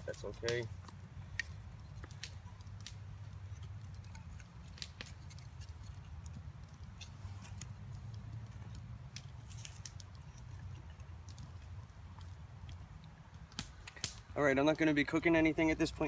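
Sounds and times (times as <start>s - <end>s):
wood clicking and scraping on wood: 0.1s - 14.3s.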